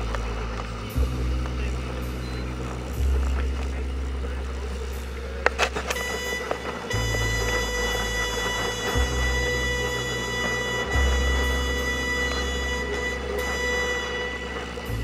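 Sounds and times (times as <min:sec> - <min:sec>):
small boat motor running: 0:00.0 - 0:15.0
steady high tones: 0:00.0 - 0:15.0.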